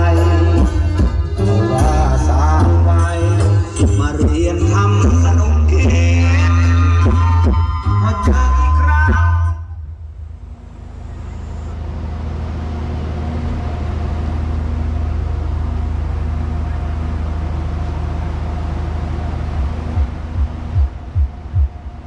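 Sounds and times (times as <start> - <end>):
deep bass rumble from speakers: 0.0 - 22.0.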